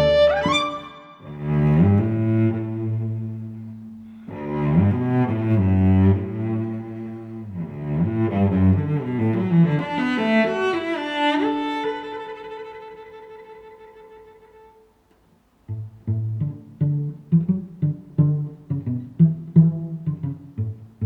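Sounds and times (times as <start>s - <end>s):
low bowed strings music: 0.0s - 14.8s, 15.7s - 21.0s.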